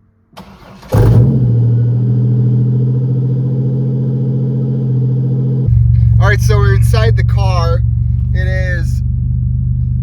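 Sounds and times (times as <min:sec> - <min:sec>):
car engine cranking and starting: 0:00.3 - 0:10.0
car engine idling: 0:00.4 - 0:10.0.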